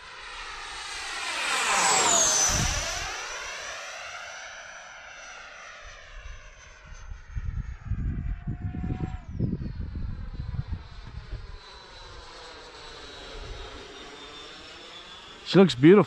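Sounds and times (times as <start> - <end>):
model jet fan whining past: 0.0 - 16.0.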